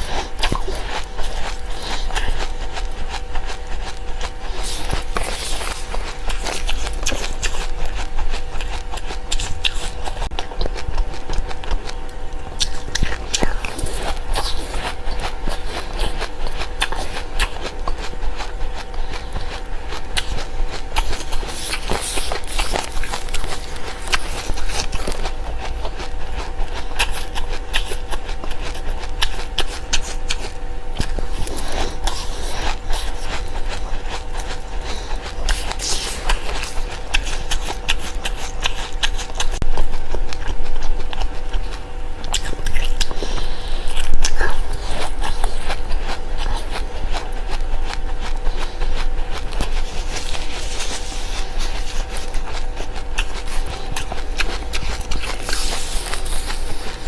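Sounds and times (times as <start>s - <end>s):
faint electrical hum: 0.0s - 57.0s
seeds being chewed: 0.0s - 57.0s.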